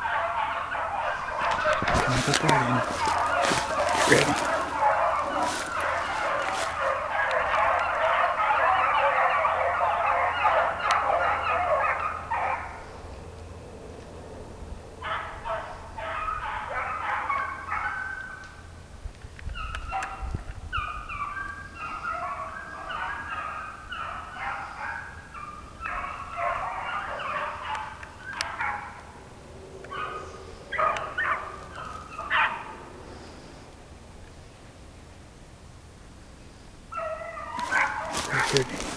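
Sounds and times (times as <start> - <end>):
dogs baying: 0.0 - 18.7, 19.6 - 33.3, 36.9 - 38.9.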